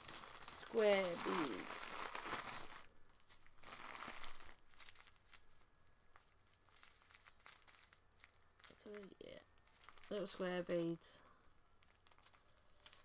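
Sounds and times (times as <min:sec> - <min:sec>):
plastic bag of beads crinkling: 0:00.0 - 0:13.0.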